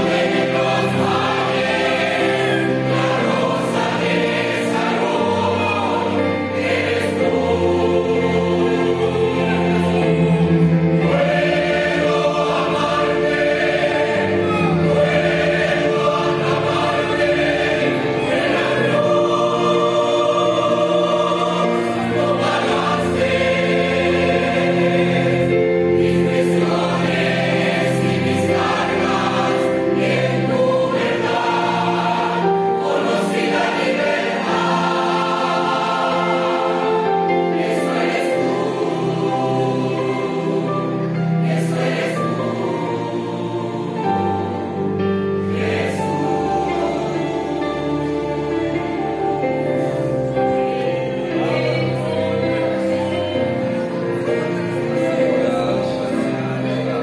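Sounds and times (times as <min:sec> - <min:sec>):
choir singing sustained chords: 0:00.0 - 0:57.0.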